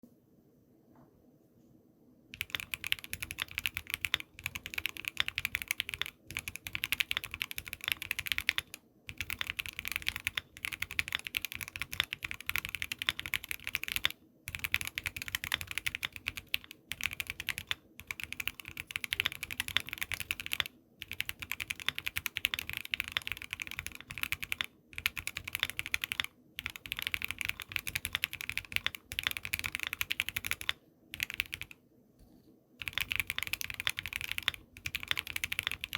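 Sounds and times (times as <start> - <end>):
mechanical keyboard typing: 2.4 - 31.8, 32.8 - 35.9.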